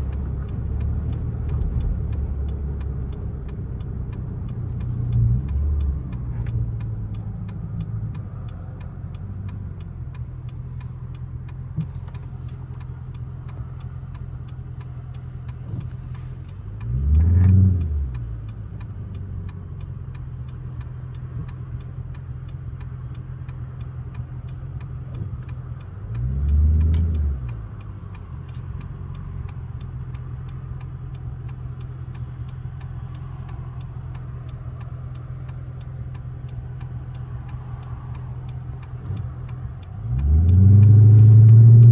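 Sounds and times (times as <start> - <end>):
car exhaust idling and revving: 0.0 - 41.9.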